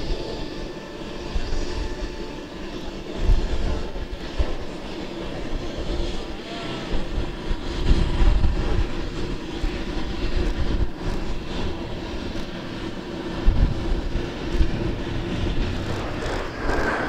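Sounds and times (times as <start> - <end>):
jet engines passing overhead: 0.0 - 17.0
uneven low rumble: 0.0 - 17.0.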